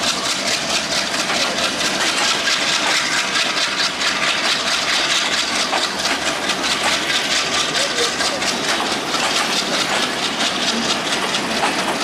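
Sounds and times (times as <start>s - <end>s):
train wheels rattling on track: 0.0s - 12.0s.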